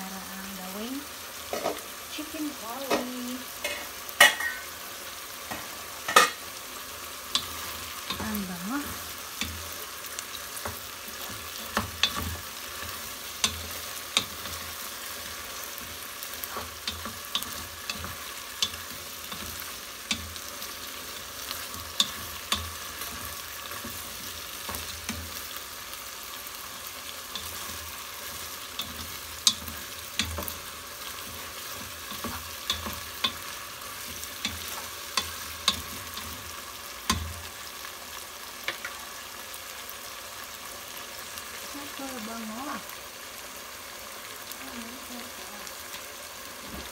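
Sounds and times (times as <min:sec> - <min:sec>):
chicken sizzling in a pot: 0:00.0 - 0:46.9.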